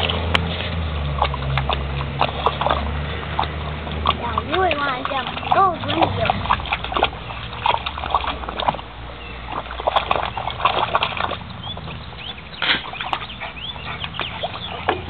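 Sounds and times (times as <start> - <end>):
wet mud squelching and splashing: 0.0 - 15.0.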